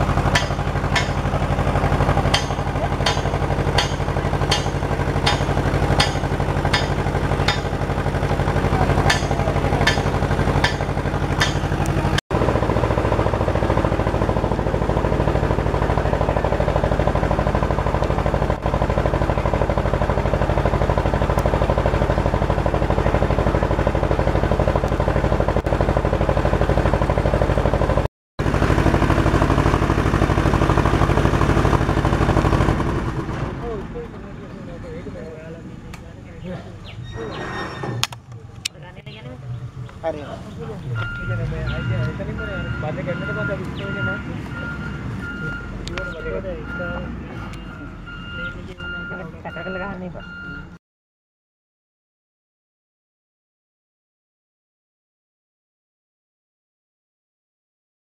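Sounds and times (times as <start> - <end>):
engine running steadily: 0.0 - 50.8.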